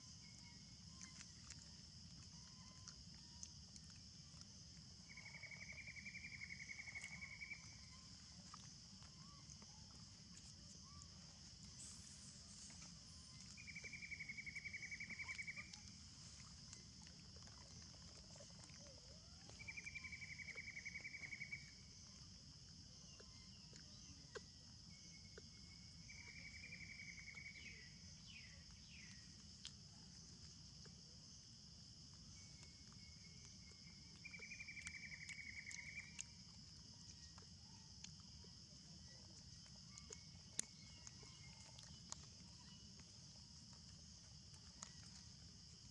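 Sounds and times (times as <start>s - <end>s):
pulsing insect trill: 0.0s - 45.9s.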